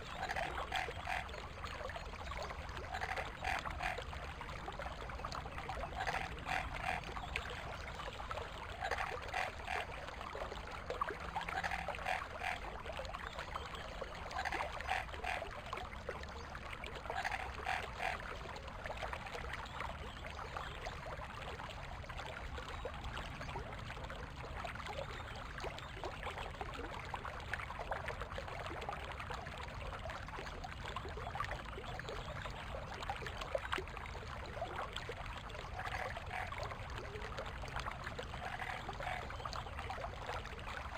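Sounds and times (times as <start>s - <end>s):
stream running over stones: 0.0s - 40.9s.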